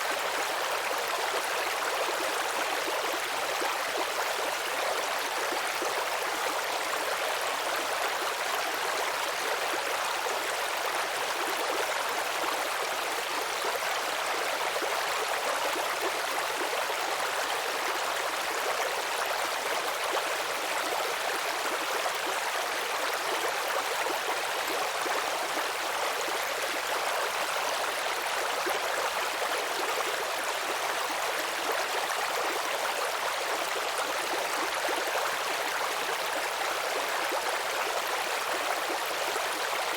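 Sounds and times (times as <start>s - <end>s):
brook water burbling over stones: 0.0s - 39.9s.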